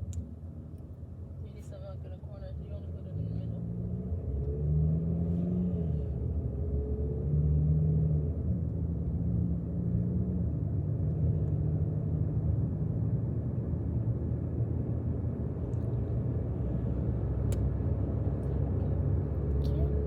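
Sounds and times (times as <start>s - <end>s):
car rumbling on the move: 0.0s - 20.0s.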